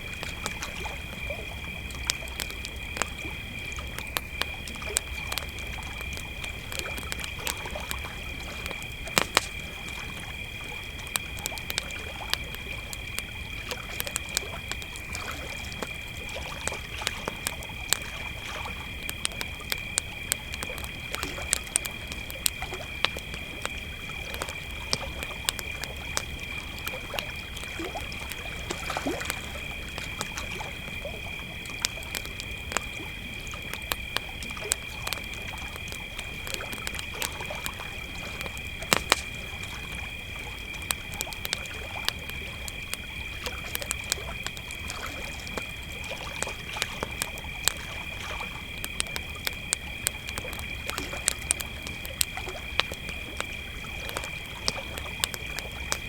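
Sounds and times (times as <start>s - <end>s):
campfire crackling and popping: 0.0s - 56.0s
crickets trilling: 0.0s - 56.0s.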